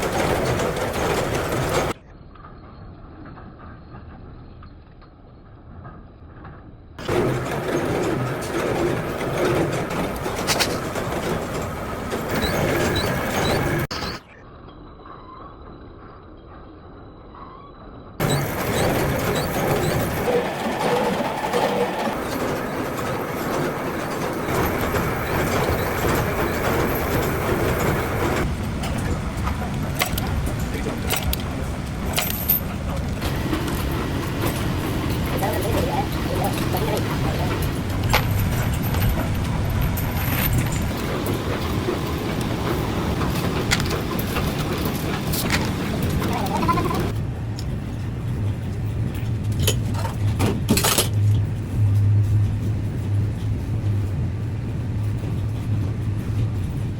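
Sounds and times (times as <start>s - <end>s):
machinery clattering: 0.0s - 2.1s, 5.7s - 14.2s, 18.2s - 56.9s.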